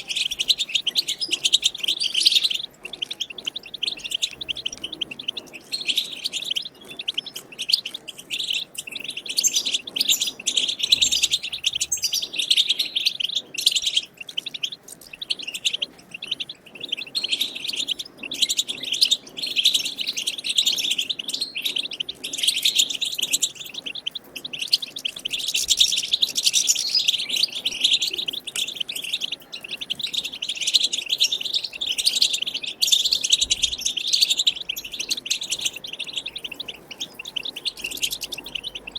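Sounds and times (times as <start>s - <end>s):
goldfinch twittering: 0.0s - 38.9s.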